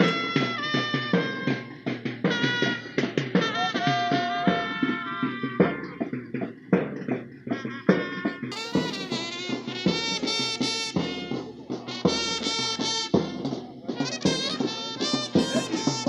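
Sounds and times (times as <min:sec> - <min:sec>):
held brass-like notes: 0:00.0 - 0:06.5, 0:07.4 - 0:16.0
percussion beat: 0:00.0 - 0:16.0.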